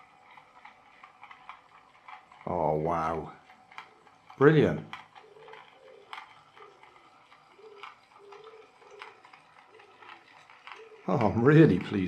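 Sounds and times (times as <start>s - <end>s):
clicks: 0.0s - 12.0s
toy car motors whirring: 0.0s - 12.0s.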